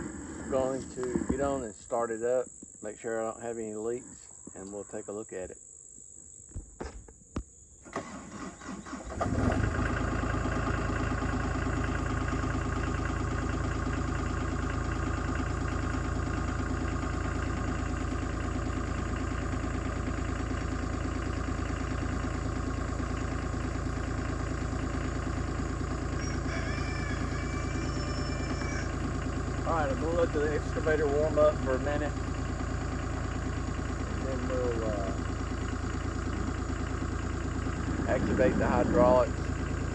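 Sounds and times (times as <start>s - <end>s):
diesel engine starting and idling: 0.0s - 2.4s, 7.8s - 39.9s.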